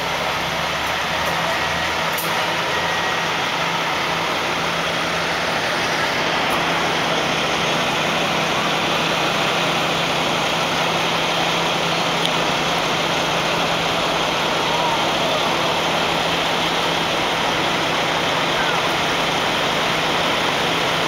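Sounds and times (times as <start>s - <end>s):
city street noise: 0.0s - 21.0s
truck engine idling: 0.0s - 21.0s.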